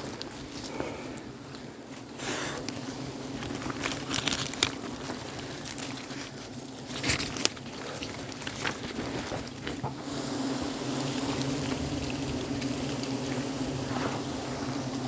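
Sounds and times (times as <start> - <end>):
rustling and crackling: 0.0 - 15.0.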